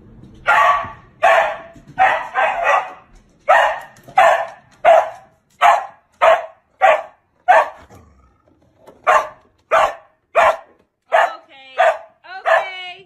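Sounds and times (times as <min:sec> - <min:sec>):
dog barking: 0:00.5 - 0:07.9, 0:09.0 - 0:12.8.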